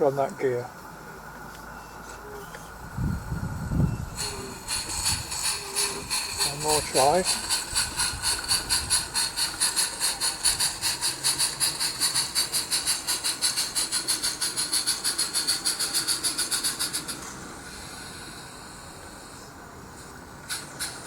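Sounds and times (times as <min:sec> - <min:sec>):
steam hissing: 0:03.0 - 0:21.0
steam locomotive chuffing: 0:03.0 - 0:21.0.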